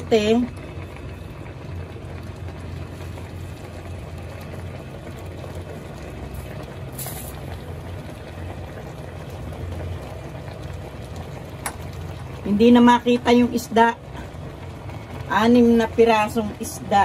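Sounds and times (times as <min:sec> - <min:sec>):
stew bubbling in a pot: 0:00.0 - 0:17.0.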